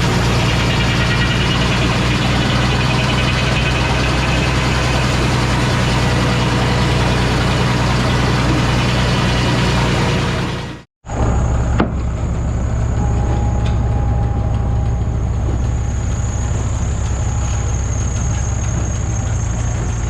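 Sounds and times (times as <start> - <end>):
heavy engine running: 0.0 - 20.0.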